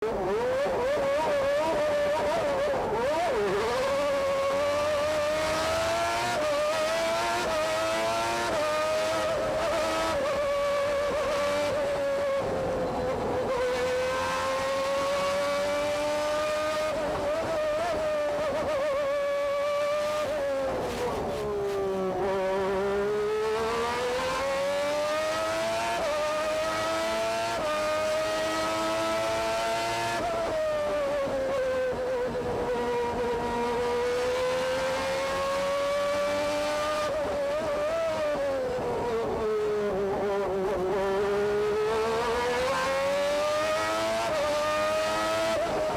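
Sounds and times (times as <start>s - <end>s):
racing car engine at high revs: 0.0s - 45.9s.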